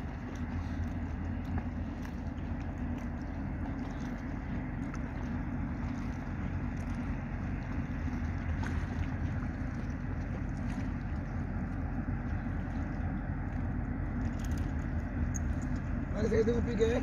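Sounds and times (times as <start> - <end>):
ship engine droning: 0.0 - 17.0.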